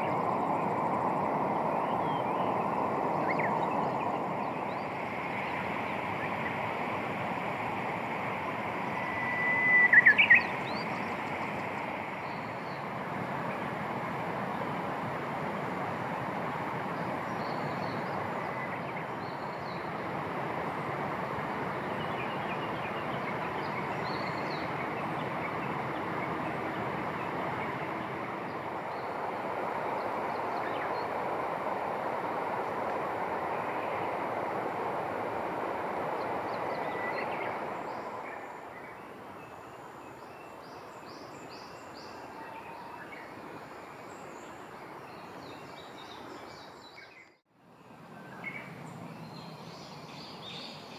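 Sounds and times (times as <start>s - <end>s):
steady rushing noise: 0.0s - 42.5s.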